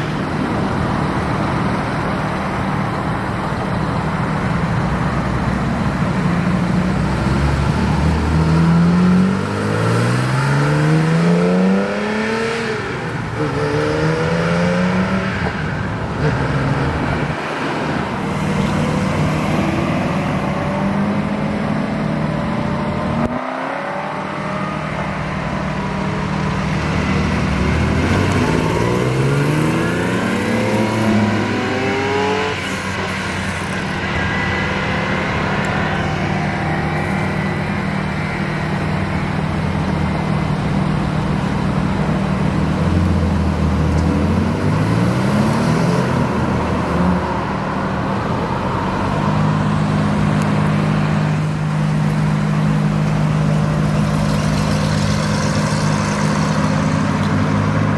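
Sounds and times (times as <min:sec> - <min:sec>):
cars accelerating hard: 0:00.0 - 0:57.9.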